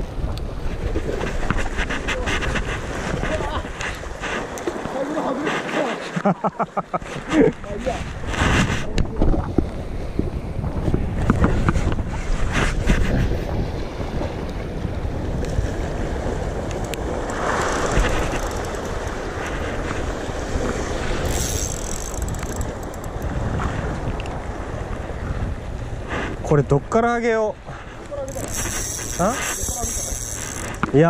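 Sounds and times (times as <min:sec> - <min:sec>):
wind buffeting microphone: 0:00.0 - 0:05.6, 0:07.0 - 0:31.0
sea waves breaking on rocks: 0:00.0 - 0:31.0.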